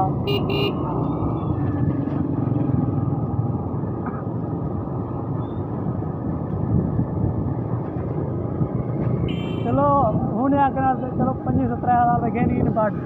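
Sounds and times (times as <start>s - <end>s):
motorcycle engine drone: 0.0s - 11.2s
road and wind rumble: 0.0s - 13.0s.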